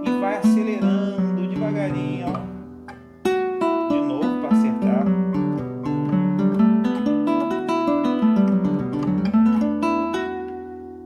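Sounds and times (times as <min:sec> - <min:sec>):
fingerpicked acoustic guitar: 0:00.0 - 0:11.0.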